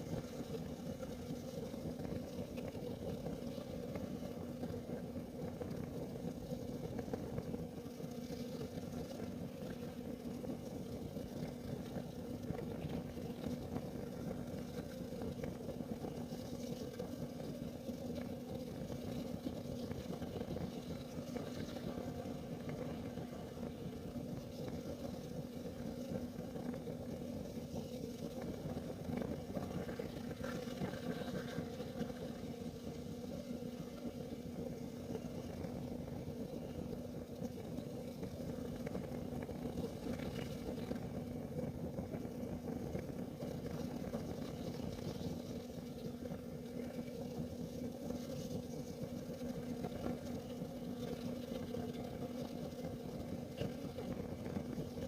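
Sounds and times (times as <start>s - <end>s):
heater burning with low rumble: 0.0s - 55.0s.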